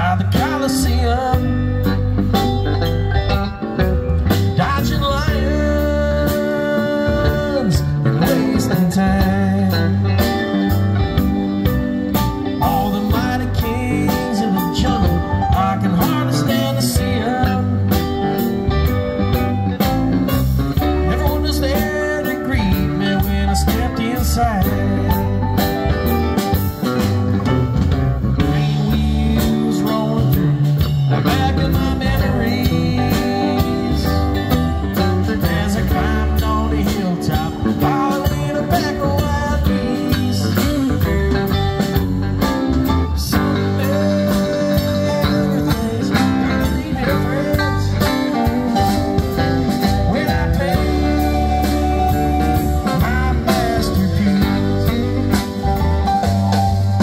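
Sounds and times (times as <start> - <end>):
bass guitar: 0.0 - 57.0
drum kit: 0.0 - 57.0
electric guitars: 0.0 - 57.0
keyboard: 0.0 - 57.0.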